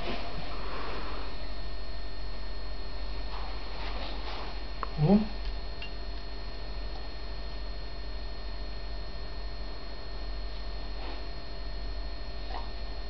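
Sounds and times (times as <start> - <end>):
faint high whine: 0.0 - 13.0
low electrical hum: 0.0 - 13.0.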